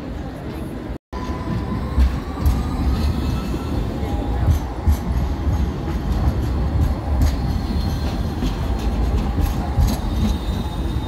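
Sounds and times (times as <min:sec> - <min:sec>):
tram rolling past: 0:00.0 - 0:11.0.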